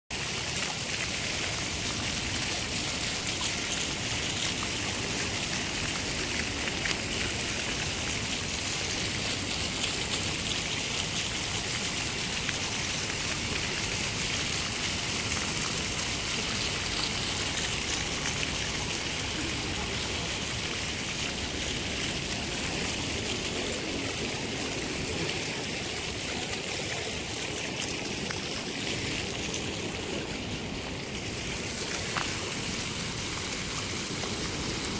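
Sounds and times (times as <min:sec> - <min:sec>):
fountain jets splashing on stone: 0:00.1 - 0:34.9.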